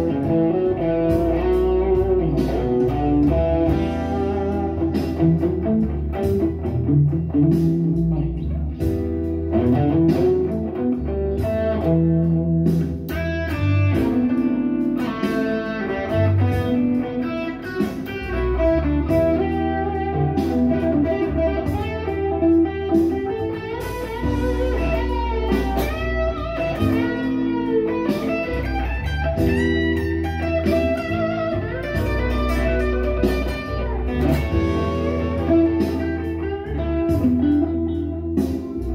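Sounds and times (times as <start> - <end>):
low bass part: 0.0 - 38.9
overdriven electric guitar lead: 0.0 - 38.9.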